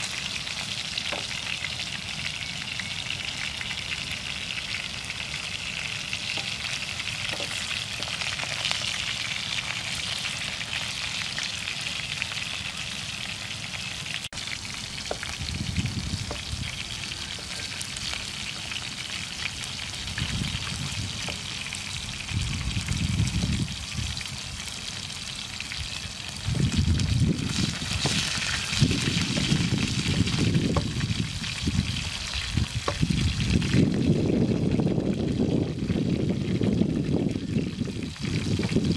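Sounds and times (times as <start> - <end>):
food sizzling in oil: 0.0 - 38.9.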